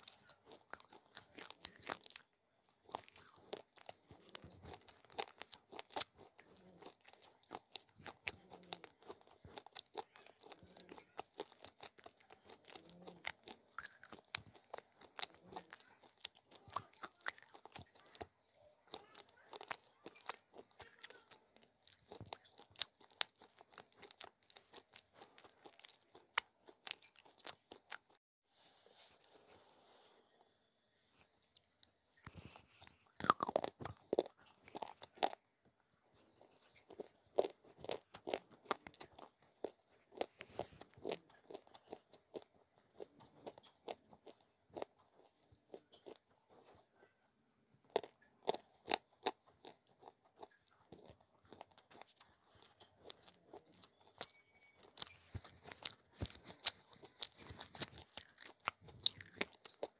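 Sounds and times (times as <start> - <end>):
crunching and chewing clay: 0.0 - 28.2, 29.0 - 59.9.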